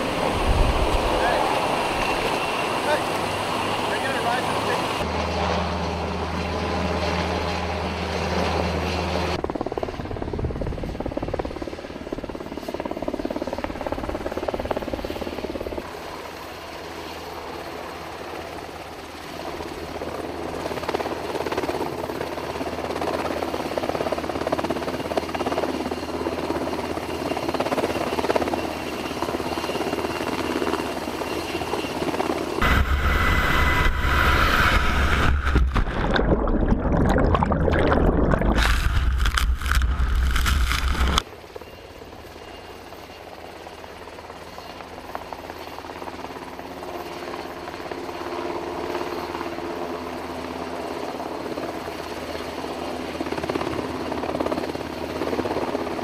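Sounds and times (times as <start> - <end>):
helicopter rotor drone: 0.0 - 35.6, 38.6 - 56.0
helicopter engine whine: 0.0 - 35.8, 38.2 - 56.0.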